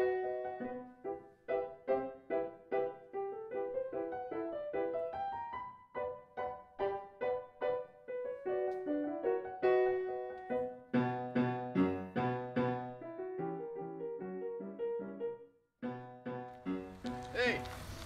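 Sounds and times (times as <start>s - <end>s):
slow solo piano melody: 0.0s - 18.0s.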